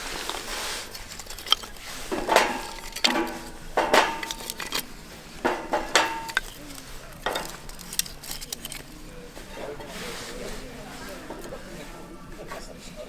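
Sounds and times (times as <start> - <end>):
dishes clinking together: 0.2 - 12.0.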